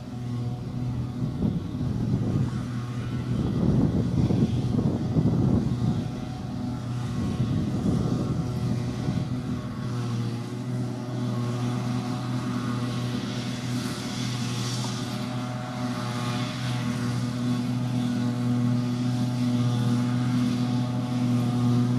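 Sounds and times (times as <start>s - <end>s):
diesel farm machinery drone: 0.0s - 21.9s.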